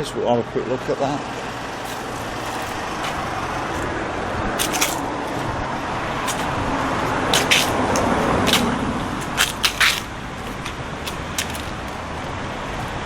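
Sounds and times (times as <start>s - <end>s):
street traffic: 0.0s - 13.0s
vehicle passing: 0.0s - 13.0s
footsteps on pavement: 0.8s - 13.0s.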